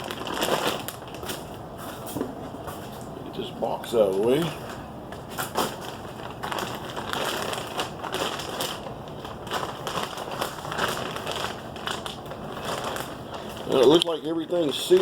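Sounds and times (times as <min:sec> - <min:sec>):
packaging crinkling: 0:00.0 - 0:02.1, 0:03.9 - 0:15.0.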